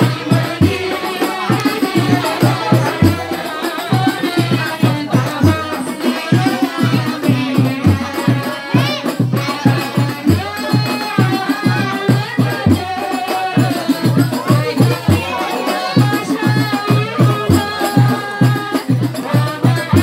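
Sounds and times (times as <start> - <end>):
frame drums beating: 0.0 - 20.0
rattling shaker: 0.0 - 20.0.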